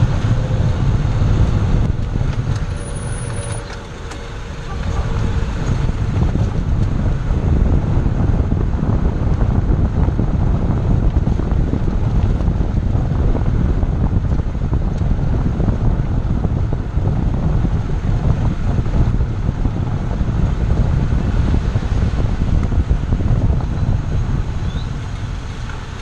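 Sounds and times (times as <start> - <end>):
car being driven: 0.0 - 26.0
wind buffeting microphone: 0.0 - 26.0.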